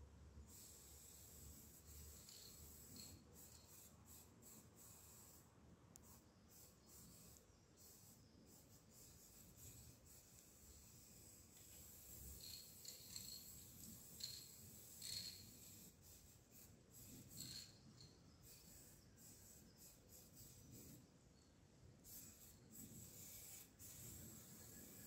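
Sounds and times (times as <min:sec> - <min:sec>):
aerosol spray can hissing: 0:00.5 - 0:05.4, 0:06.0 - 0:17.8, 0:18.4 - 0:21.0, 0:22.0 - 0:25.0.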